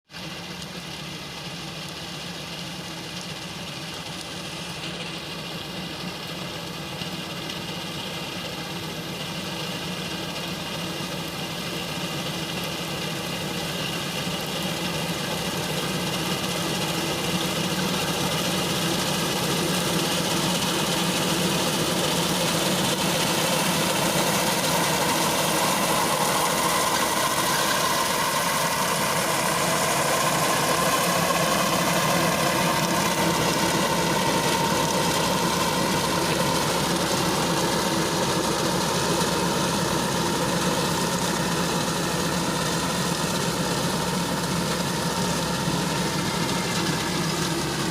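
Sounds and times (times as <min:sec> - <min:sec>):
tractor engine under load: 0:00.0 - 0:47.9.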